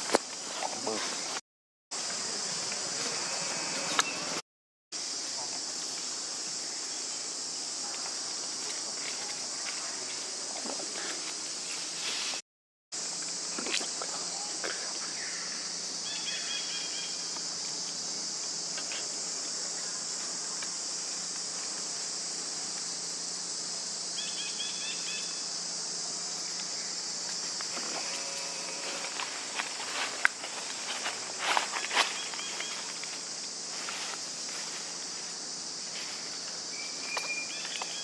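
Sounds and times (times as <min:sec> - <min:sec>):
high-pitched insect chorus: 0:00.0 - 0:04.4, 0:05.0 - 0:38.0.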